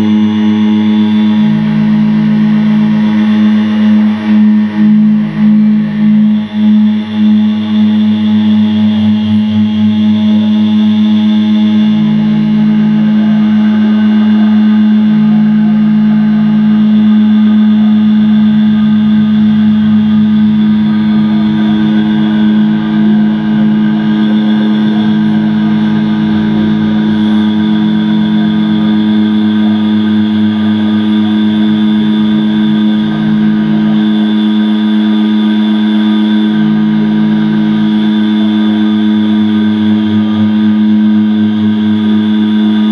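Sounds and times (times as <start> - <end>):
deep tones cutting in: 0.0 - 42.9
distorted drone music: 0.0 - 42.9.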